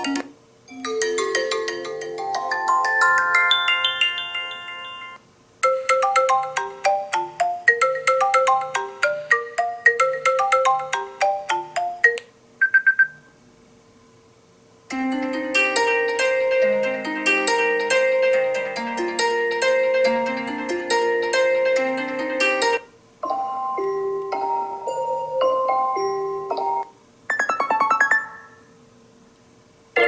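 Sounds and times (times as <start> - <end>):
chiming ringtone melody: 0.7 - 12.2, 14.9 - 28.7
bell-like ringtone tune: 0.7 - 13.1, 14.9 - 28.7.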